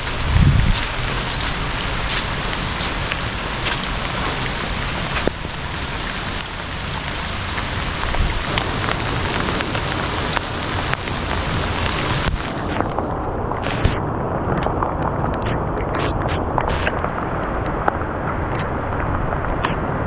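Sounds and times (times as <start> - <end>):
sharp raindrop hits: 0.0 - 20.0
steady rain falling: 0.0 - 20.0.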